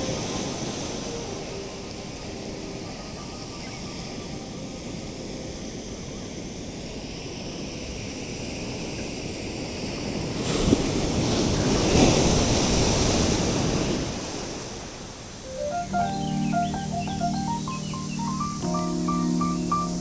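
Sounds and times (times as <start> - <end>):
waves washing on beach: 0.0 - 20.0.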